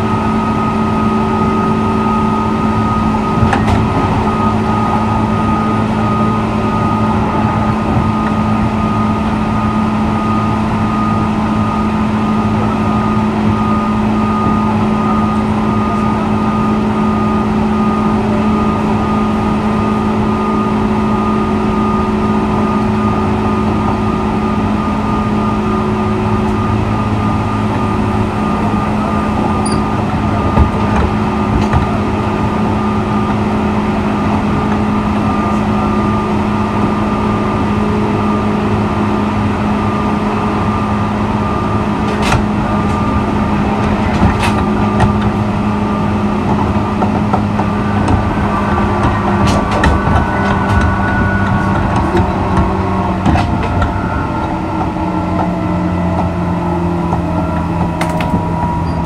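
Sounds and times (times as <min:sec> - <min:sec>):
electric train equipment humming: 0:00.0 - 0:59.0.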